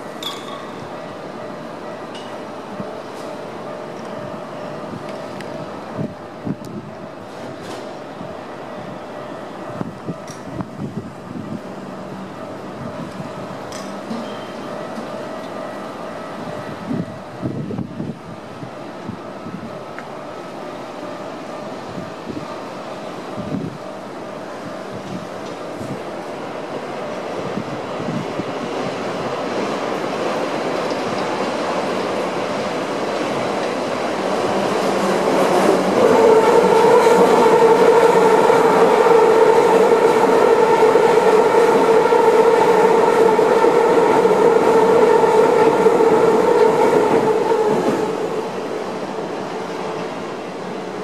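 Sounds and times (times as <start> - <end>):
electric train passing: 0.0 - 51.0.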